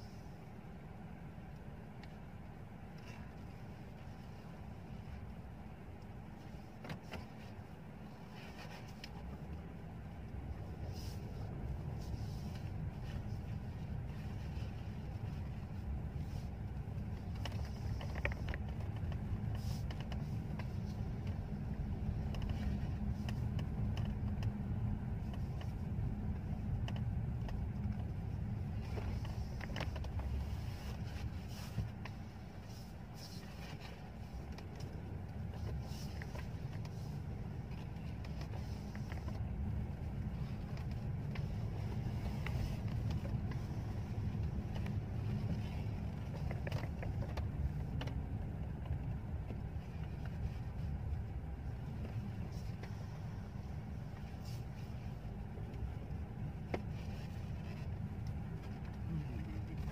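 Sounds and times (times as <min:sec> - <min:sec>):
car interior rumble: 0:00.0 - 0:59.9.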